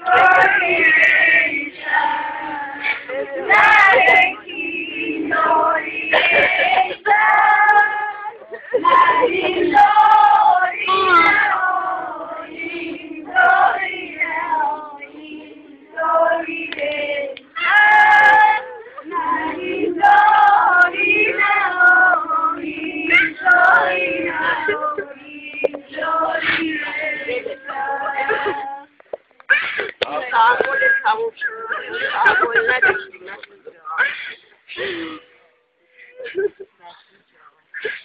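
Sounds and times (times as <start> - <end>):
women singing a lament: 0.0 - 33.4.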